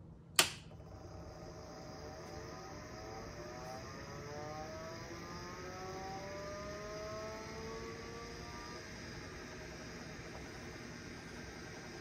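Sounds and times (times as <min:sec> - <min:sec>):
power supply fan hum: 0:00.0 - 0:12.0
hard drive whine rising: 0:00.7 - 0:12.0.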